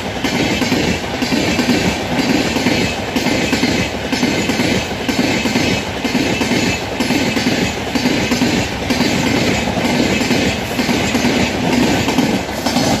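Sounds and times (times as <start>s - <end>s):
rhythmic clickety-clack of wheels: 0.0s - 13.0s
train wheels rumbling on rails: 0.0s - 13.0s.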